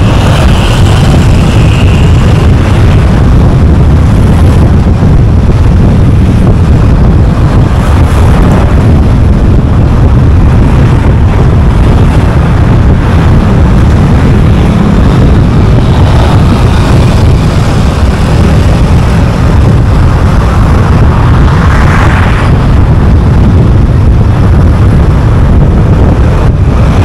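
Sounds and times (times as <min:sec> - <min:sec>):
car road and wind noise: 0:00.0 - 0:27.0.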